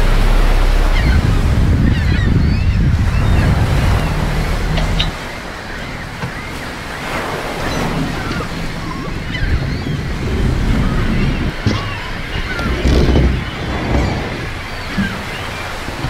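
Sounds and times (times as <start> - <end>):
seashore surf: 0.0 - 16.0
wind buffeting microphone: 0.0 - 16.0.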